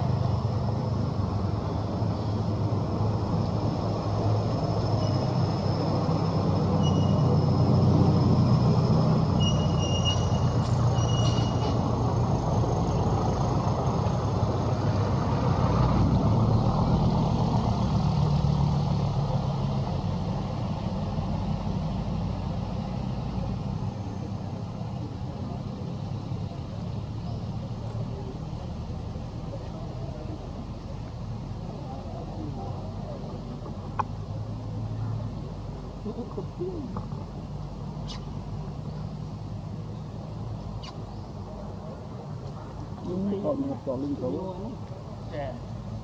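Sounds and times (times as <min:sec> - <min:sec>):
engine rumbling: 0:00.0 - 0:46.0.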